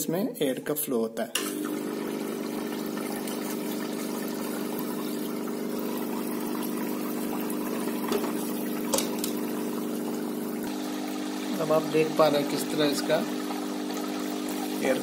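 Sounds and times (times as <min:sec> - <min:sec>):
aquarium filter motor hum: 0:01.4 - 0:15.0
water churning: 0:01.5 - 0:15.0.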